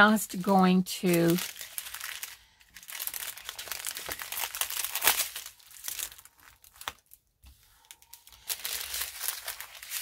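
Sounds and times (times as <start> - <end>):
thin plastic crinkling: 0.0 - 10.0.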